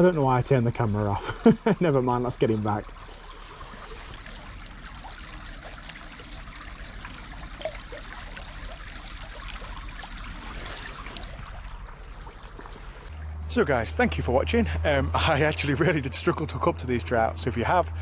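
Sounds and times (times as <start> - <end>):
stream babbling over stones: 0.0 - 18.0.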